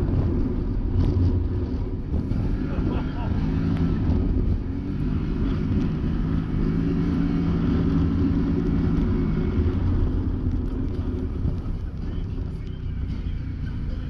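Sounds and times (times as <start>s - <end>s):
low rumble: 0.0s - 14.0s
vehicle engine running: 0.0s - 14.0s.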